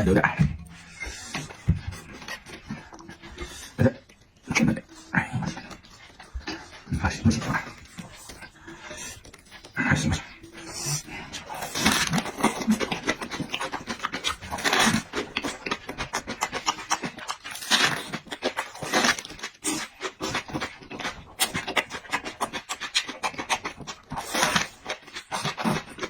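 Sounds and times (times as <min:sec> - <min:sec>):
person chewing and slurping: 0:00.0 - 0:26.0.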